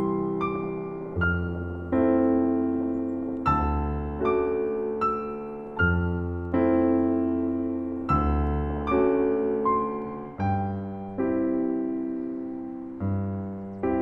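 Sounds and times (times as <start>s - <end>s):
gentle solo piano piece: 0.0s - 14.0s.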